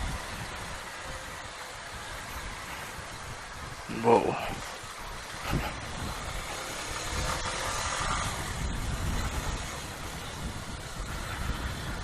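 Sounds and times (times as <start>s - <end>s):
motorcycle engine running: 0.0s - 12.0s
wind over microphone: 0.0s - 12.0s.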